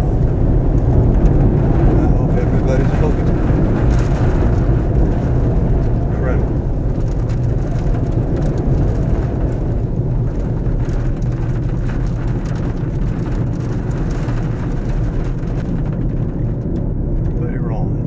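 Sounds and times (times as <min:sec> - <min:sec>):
rain ticking on windshield: 0:00.0 - 0:17.9
strong wind around a vehicle: 0:00.0 - 0:18.0.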